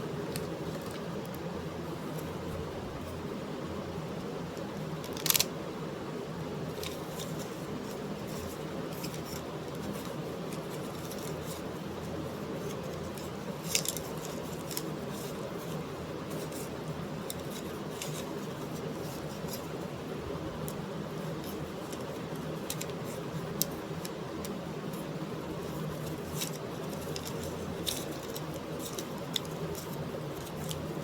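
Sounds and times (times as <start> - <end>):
low hum and hiss: 0.0 - 31.0.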